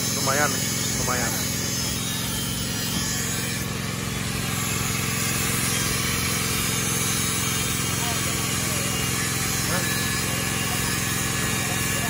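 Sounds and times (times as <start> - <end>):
motor humming with hiss: 0.0 - 12.0.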